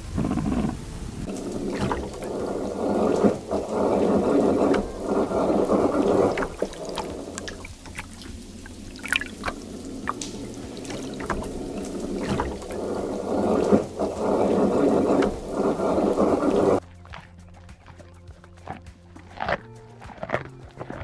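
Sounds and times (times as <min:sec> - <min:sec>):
sharp water drips: 0:00.0 - 0:20.9
water pouring and trickling: 0:00.0 - 0:21.0.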